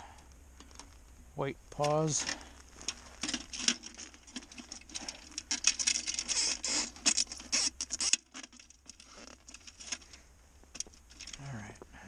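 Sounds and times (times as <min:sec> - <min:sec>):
gloved hands rustling branches: 0:00.0 - 0:12.0.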